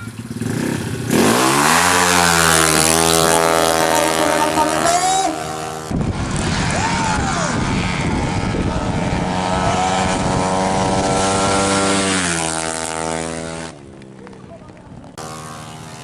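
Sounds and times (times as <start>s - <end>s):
scooter engine at high revs: 0.0s - 13.8s, 15.1s - 16.0s.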